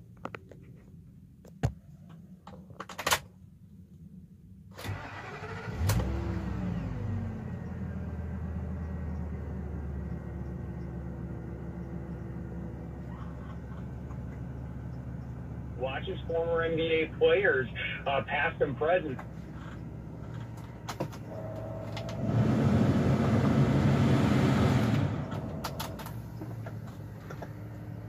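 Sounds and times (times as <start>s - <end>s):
engine cranking and idling: 4.8s - 28.0s.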